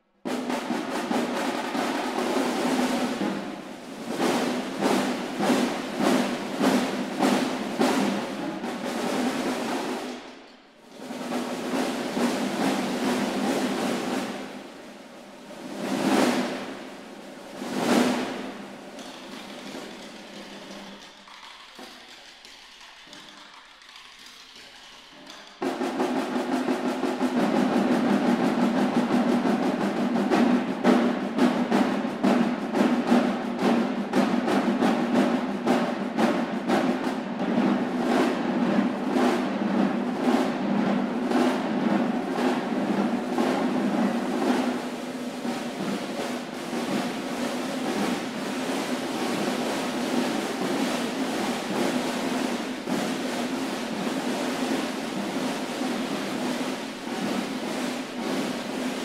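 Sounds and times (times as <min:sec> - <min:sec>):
snare drums playing: 0:00.2 - 0:59.0.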